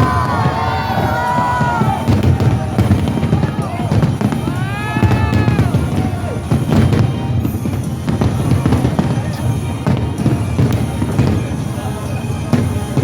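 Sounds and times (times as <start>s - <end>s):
fireworks booms and bangs: 0.0s - 13.0s
music with sweeping tone: 0.0s - 13.0s.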